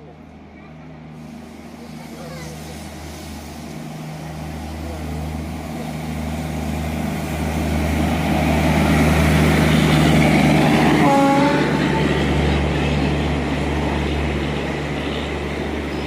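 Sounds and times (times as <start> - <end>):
electric locomotive hum: 0.0 - 16.0
train wheels rumbling on rails: 0.0 - 16.0.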